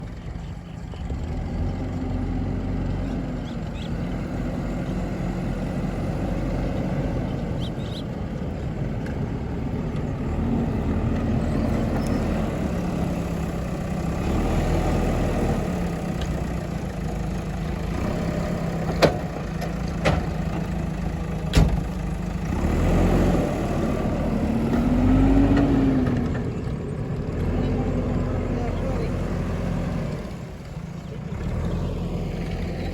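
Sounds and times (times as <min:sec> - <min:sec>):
digger diesel engine: 0:00.0 - 0:32.9.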